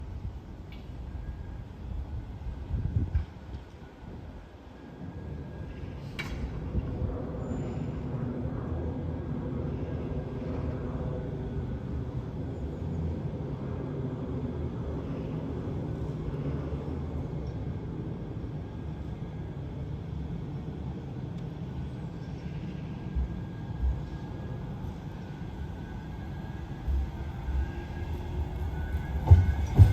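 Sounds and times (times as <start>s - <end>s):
tram running with low rumble: 0.0s - 29.9s.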